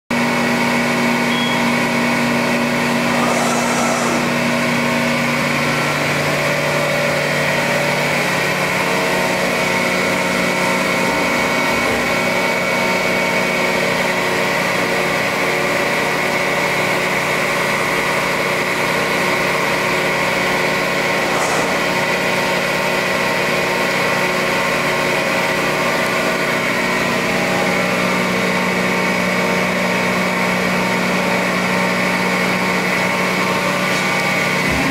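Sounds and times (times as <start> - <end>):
hydraulic pump humming: 0.2 - 34.9.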